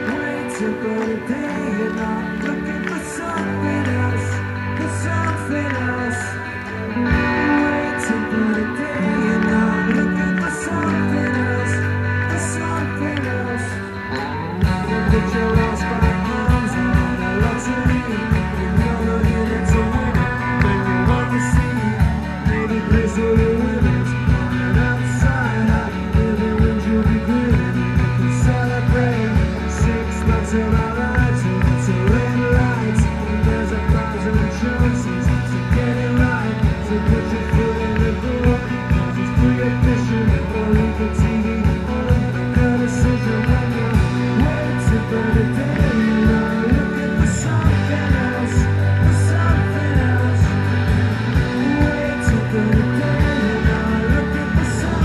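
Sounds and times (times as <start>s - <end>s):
bass guitar: 0.0s - 55.0s
drums with steady beat: 0.0s - 55.0s
electric guitars: 0.0s - 55.0s.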